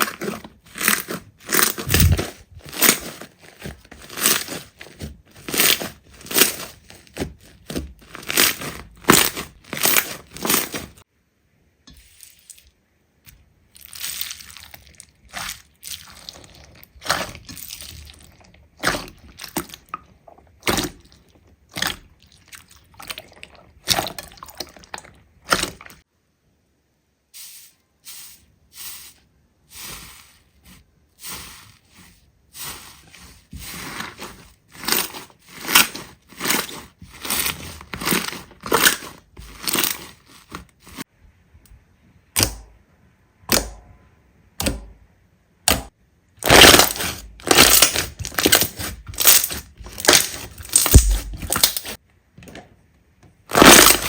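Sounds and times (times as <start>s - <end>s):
slime squelching by hand: 0.0s - 11.0s, 11.9s - 26.1s, 27.4s - 41.1s, 45.7s - 52.0s, 53.4s - 54.0s.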